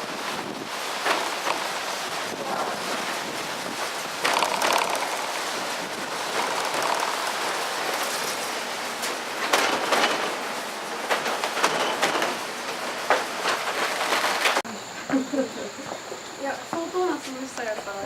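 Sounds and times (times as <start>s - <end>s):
cable car rushing and rattling: 0.0s - 14.6s.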